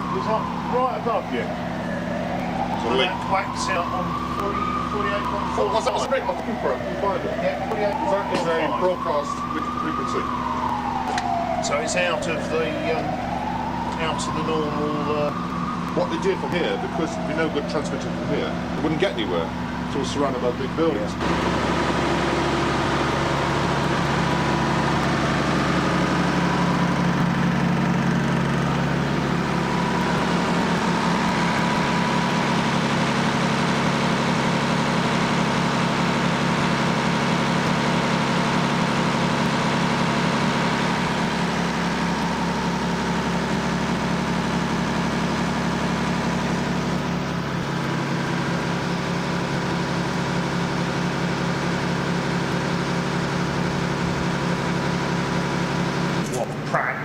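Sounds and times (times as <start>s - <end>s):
generator engine droning: 0.0s - 57.0s.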